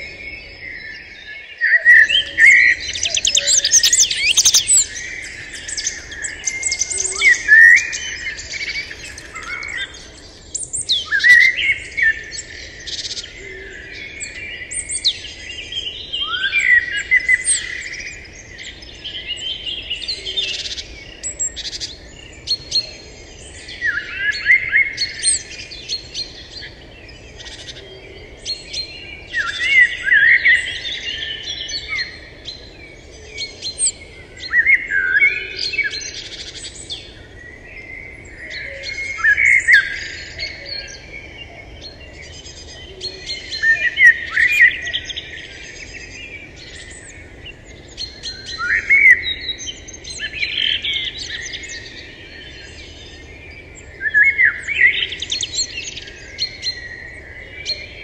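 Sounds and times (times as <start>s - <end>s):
birds chirping and whistling: 0.0s - 58.0s
faint outdoor background: 0.0s - 58.0s.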